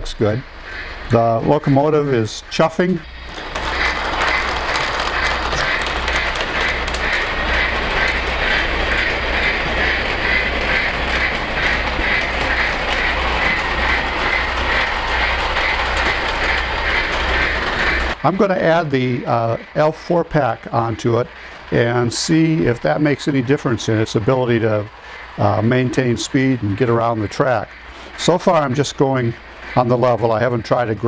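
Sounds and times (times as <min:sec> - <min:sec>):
electronic steam chuff effect: 0:00.0 - 0:31.0
model train rumbling on track: 0:00.0 - 0:31.0.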